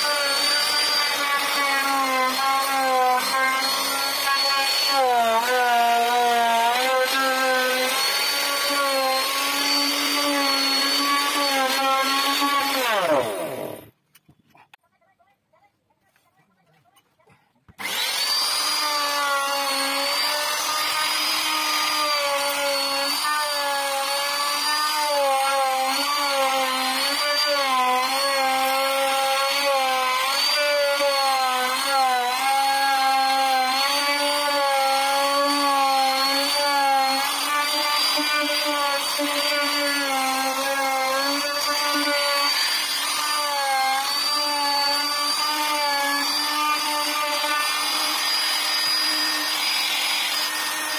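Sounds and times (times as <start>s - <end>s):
router motor whine cutting wood: 0.0s - 14.0s, 17.8s - 50.9s.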